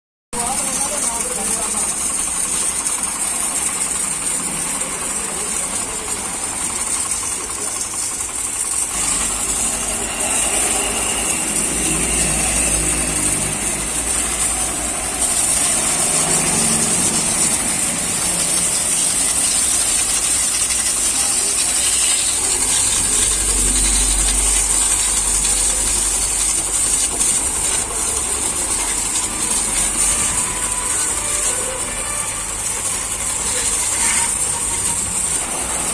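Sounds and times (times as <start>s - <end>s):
high-pressure water spray hissing: 0.4s - 35.9s
low motor hum: 0.4s - 35.9s.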